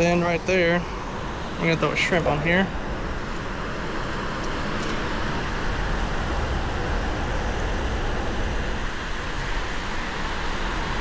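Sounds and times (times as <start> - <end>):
surf rushing on beach: 0.0 - 11.0
wind rumbling on microphone: 0.0 - 11.0.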